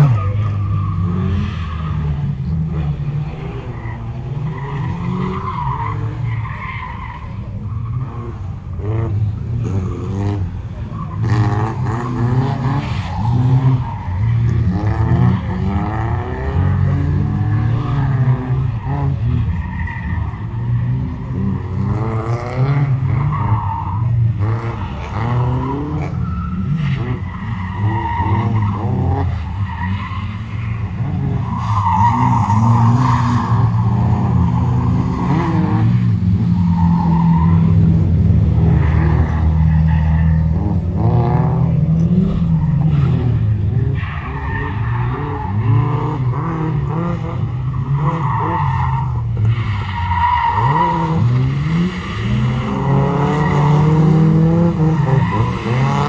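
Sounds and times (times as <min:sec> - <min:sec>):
car engine revving: 0:00.0 - 0:56.0
tire squeals: 0:00.0 - 0:56.0.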